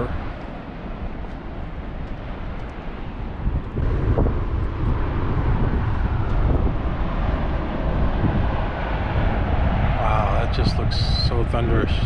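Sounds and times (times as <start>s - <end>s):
roar of jetting water: 0.0s - 12.0s
wind buffeting microphone: 0.0s - 12.0s.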